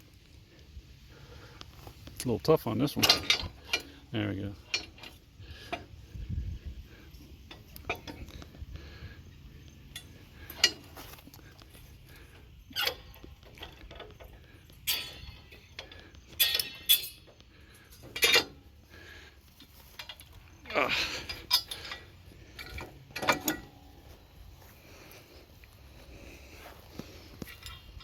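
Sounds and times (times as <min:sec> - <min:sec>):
steel parts clanking: 0:02.1 - 0:06.3, 0:06.9 - 0:24.4, 0:27.0 - 0:28.0.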